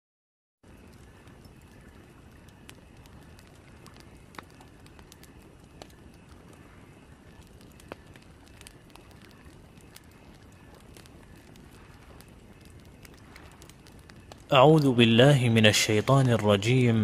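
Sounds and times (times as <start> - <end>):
fire crackling pops: 0.6 - 17.0
burning wood hiss: 0.7 - 17.0.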